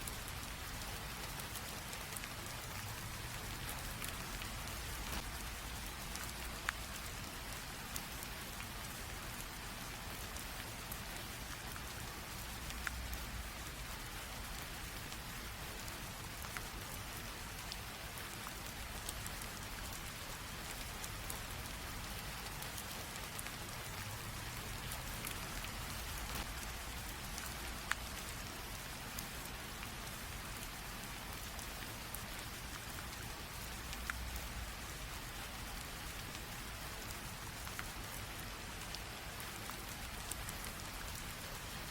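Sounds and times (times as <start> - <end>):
light rain hiss: 0.0 - 41.9
raindrops ticking on surface: 0.0 - 41.9.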